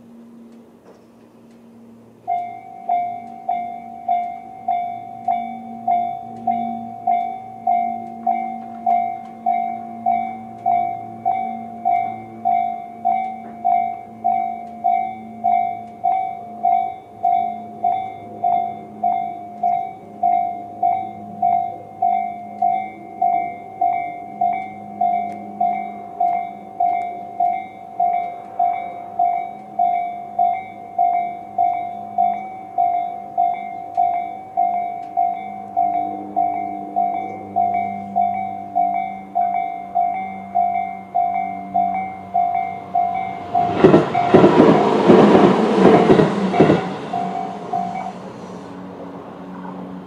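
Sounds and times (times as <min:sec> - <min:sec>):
level crossing bell dinging: 0:02.2 - 0:45.4, 0:46.1 - 0:48.2.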